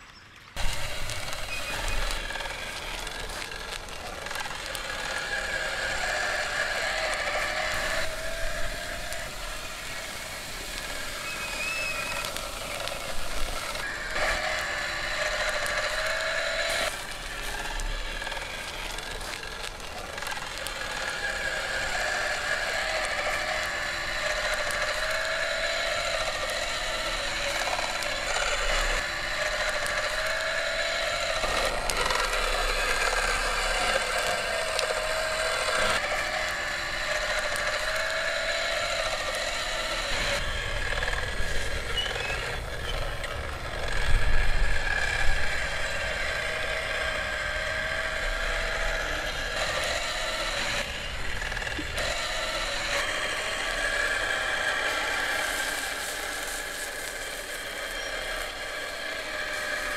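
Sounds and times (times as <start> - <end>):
rotisserie mechanism whirring: 0.2 - 59.9.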